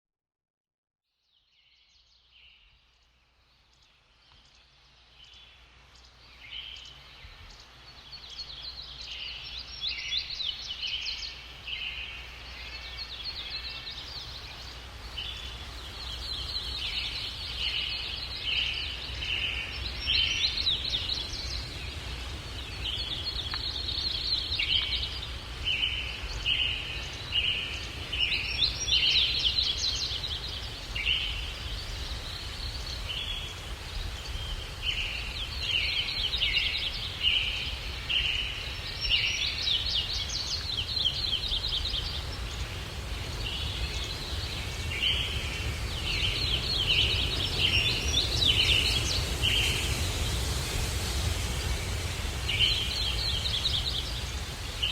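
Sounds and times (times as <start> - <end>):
birds chirping: 2.0 - 54.9
low wind rumble: 3.8 - 54.9.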